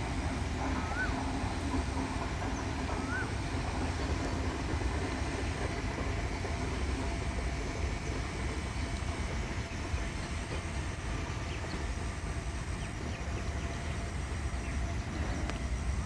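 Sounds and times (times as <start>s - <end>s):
passenger train passing: 0.0s - 16.0s.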